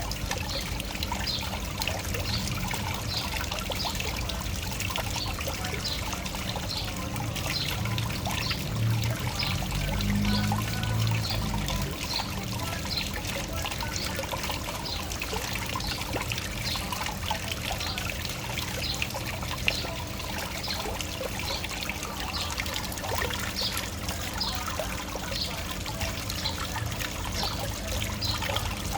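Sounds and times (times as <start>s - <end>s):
water trickling and dripping: 0.0s - 28.9s.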